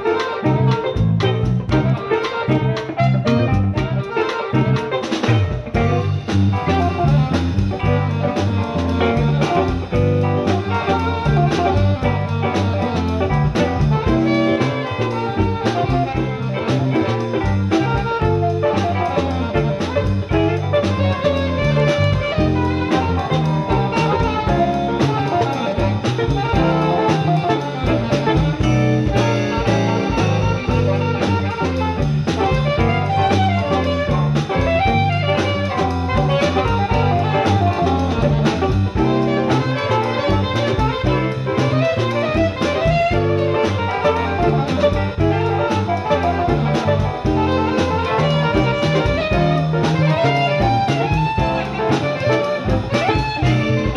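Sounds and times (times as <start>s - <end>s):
jazz-funk band playing: 0.0s - 53.9s.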